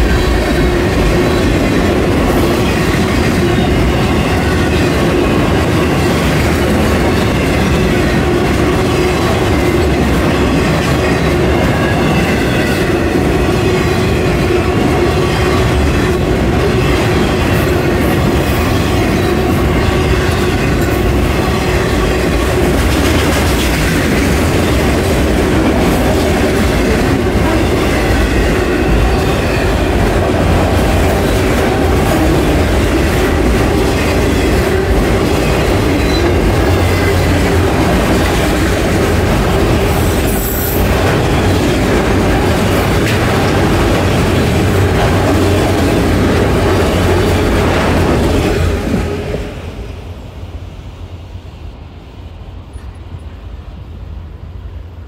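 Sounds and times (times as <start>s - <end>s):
train wheels rumbling over rails: 0.0s - 55.0s.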